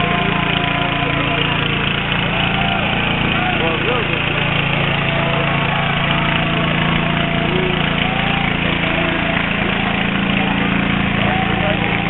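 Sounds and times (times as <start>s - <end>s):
faint crowd voices: 0.0s - 12.0s
small engine running: 0.0s - 12.0s.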